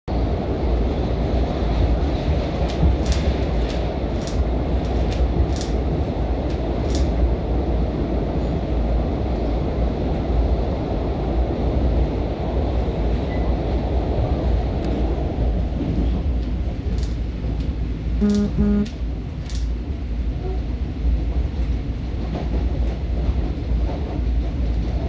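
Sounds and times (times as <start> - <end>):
train wheels rumbling on rail: 0.1 - 25.0.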